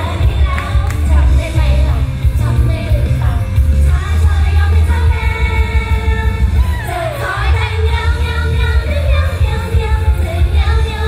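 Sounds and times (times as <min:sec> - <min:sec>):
amplified pop backing track: 0:00.0 - 0:11.0
women singing into microphones: 0:00.0 - 0:11.0.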